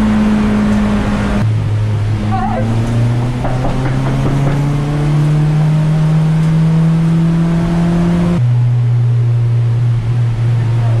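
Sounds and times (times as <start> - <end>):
race car engine from inside cabin: 0.0 - 11.0.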